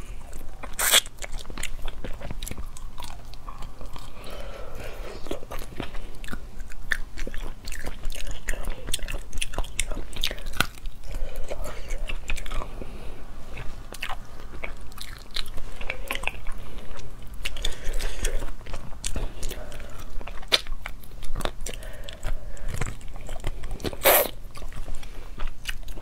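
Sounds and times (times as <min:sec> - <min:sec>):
person chewing and crunching meat: 0:00.0 - 0:26.0.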